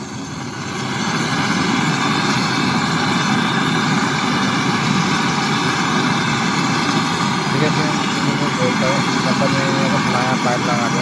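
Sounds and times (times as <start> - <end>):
torch flame hissing: 0.0 - 11.0.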